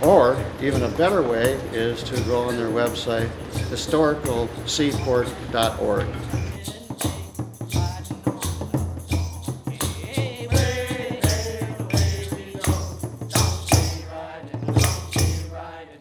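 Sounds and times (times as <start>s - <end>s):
steady drum beat: 0.0s - 15.8s
tambourines jingling: 0.0s - 15.8s
men singing sea shanty: 0.0s - 16.0s.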